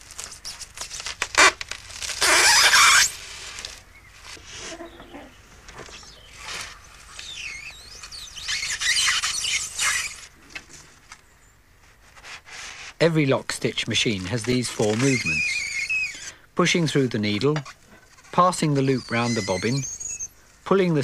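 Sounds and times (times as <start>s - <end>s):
polystyrene squeaking and scraping: 0.0s - 11.2s, 11.8s - 21.0s.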